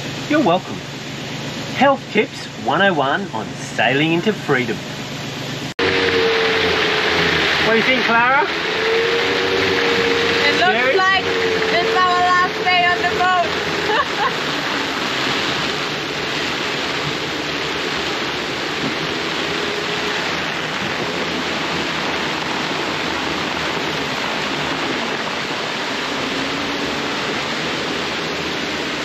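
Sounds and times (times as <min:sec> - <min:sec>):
heavy rain and wind on boat: 0:05.8 - 0:29.0.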